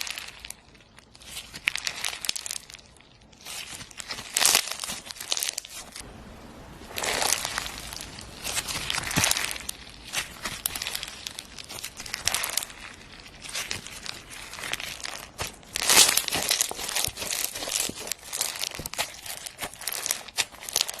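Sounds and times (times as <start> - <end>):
slime squished by hand: 0.0 - 6.0, 6.9 - 21.0.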